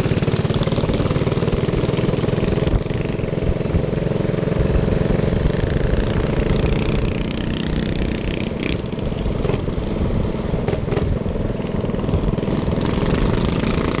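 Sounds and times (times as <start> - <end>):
minibike engine running: 0.0 - 14.0.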